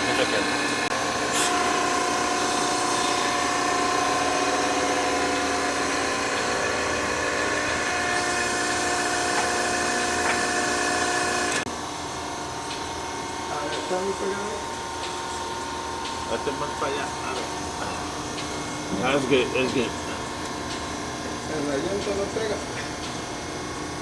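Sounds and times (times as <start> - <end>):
air compressor humming and whining: 0.0 - 24.0.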